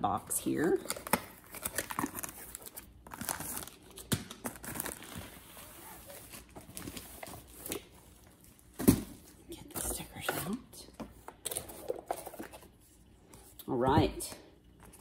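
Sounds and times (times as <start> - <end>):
cardboard and paper rustling: 0.8 - 13.6.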